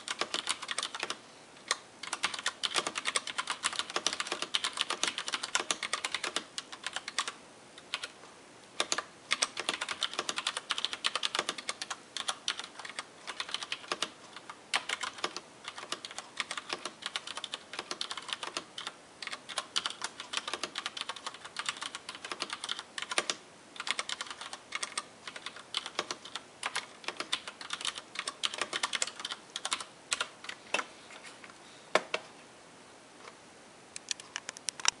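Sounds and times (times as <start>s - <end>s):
mechanical keyboard typing: 0.0s - 8.2s, 8.8s - 30.9s.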